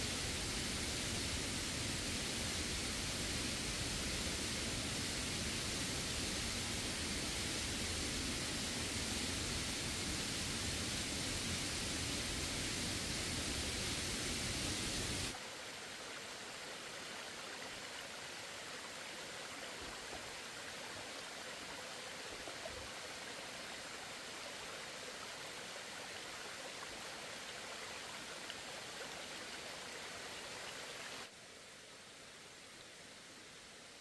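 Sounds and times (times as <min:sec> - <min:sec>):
rushing hiss like flowing water: 0:00.0 - 0:34.0.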